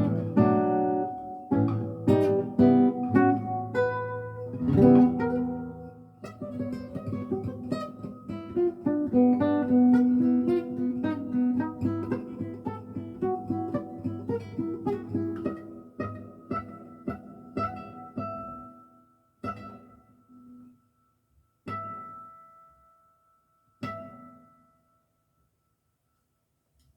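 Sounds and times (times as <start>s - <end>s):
classical guitar playing: 0.0s - 20.7s, 21.7s - 22.8s, 23.8s - 24.7s.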